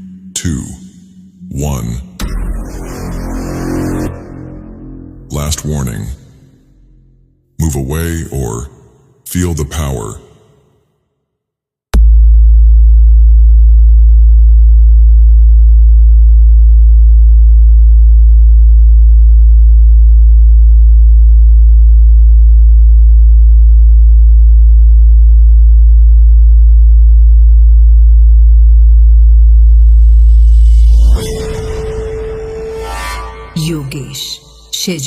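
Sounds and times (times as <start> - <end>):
deep sub-bass test tone: 0.0 - 7.6, 12.0 - 35.0.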